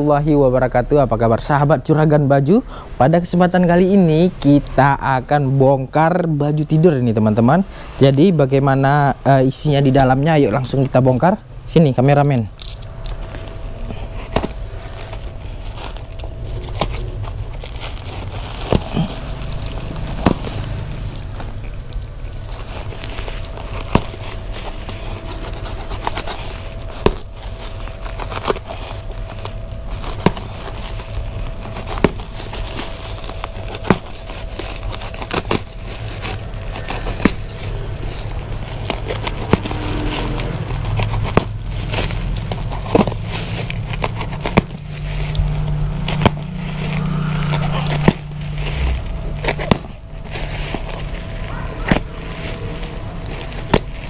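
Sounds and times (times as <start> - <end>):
steady low hum: 0.0 - 54.0
plastic sack crinkling: 8.8 - 54.0.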